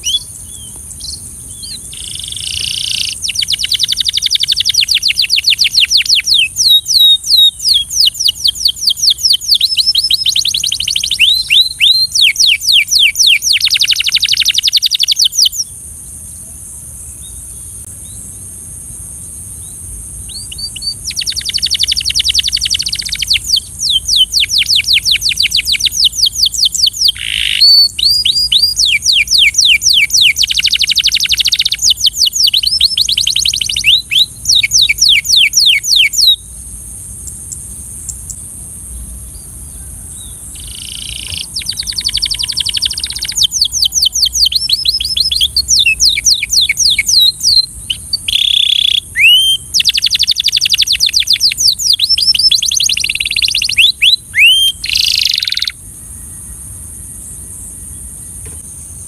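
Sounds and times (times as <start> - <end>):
canary singing trills: 0.0 - 15.8, 19.6 - 36.6, 37.2 - 55.8
steady high hiss: 0.0 - 59.0.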